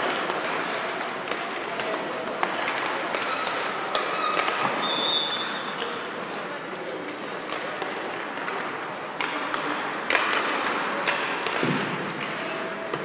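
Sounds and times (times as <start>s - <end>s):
hockey sticks clacking: 0.0s - 13.0s.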